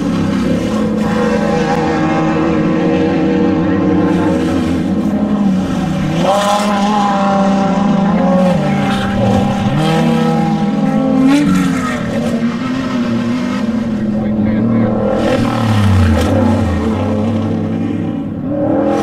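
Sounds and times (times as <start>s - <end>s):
race vehicle engine revving: 0.0s - 19.0s.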